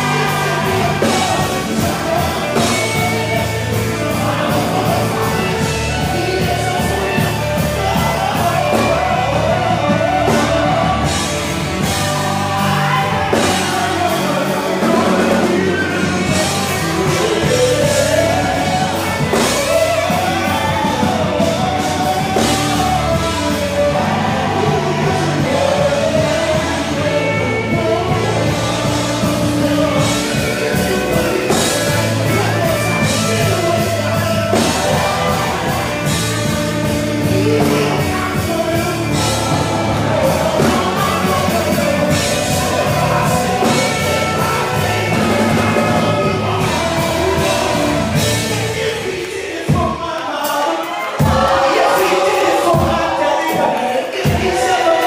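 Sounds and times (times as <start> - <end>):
bass: 0.0 - 50.1, 51.2 - 55.0
band accompaniment: 0.0 - 55.0
gospel choir singing: 0.0 - 55.0
man singing lead: 0.0 - 55.0.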